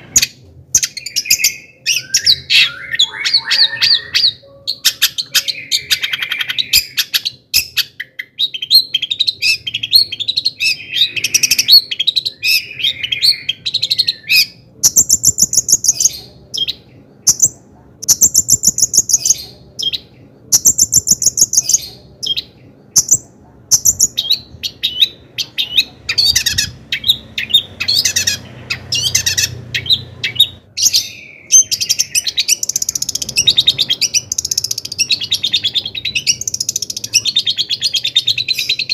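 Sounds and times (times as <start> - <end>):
bird singing with trills: 0.0 - 38.9.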